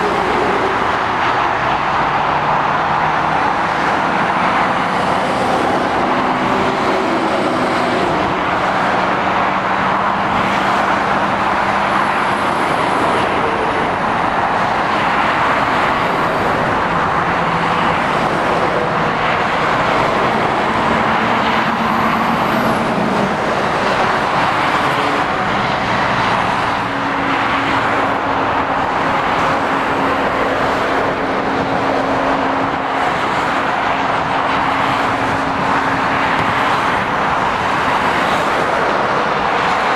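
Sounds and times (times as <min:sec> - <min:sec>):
lorry diesel engines droning: 0:00.0 - 0:39.9
tyre noise of passing traffic: 0:00.0 - 0:39.9.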